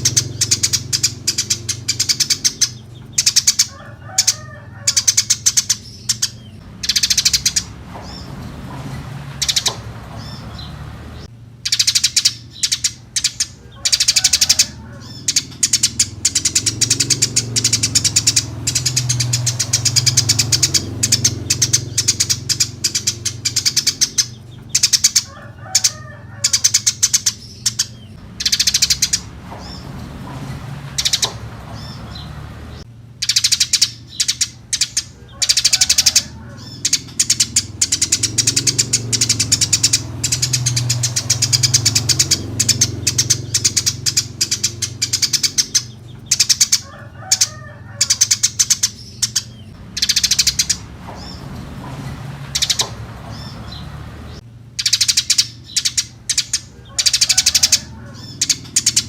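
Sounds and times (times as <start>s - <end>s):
sparrow chirping: 0.0s - 59.0s.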